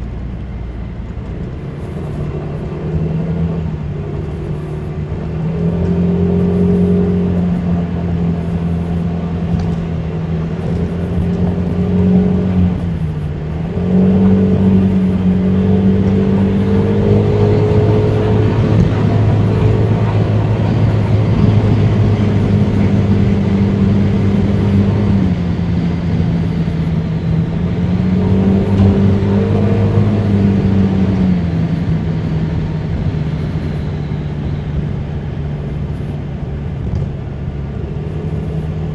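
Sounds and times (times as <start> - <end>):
scooter engine running: 0.0 - 38.9
wind and road noise: 0.0 - 38.9.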